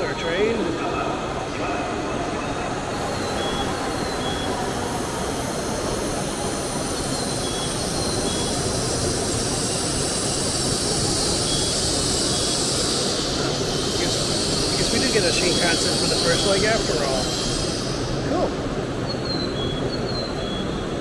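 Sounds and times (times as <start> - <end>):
train rushing hiss: 0.0 - 21.0.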